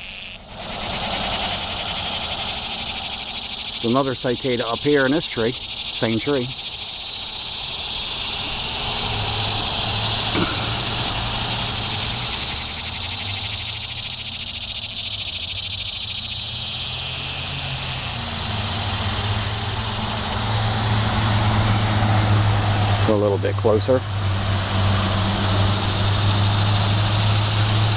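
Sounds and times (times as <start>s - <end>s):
cicadas buzzing: 0.0s - 27.9s
road traffic hum: 0.0s - 27.9s.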